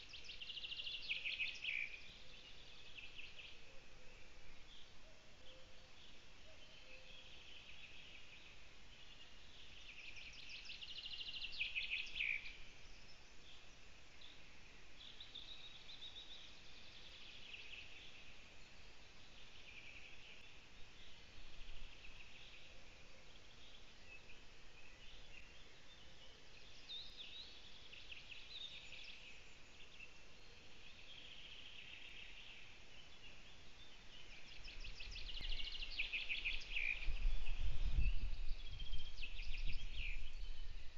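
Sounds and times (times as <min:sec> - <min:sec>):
faint steady hiss: 0:00.0 - 0:40.9
songbirds trilling: 0:00.0 - 0:40.9.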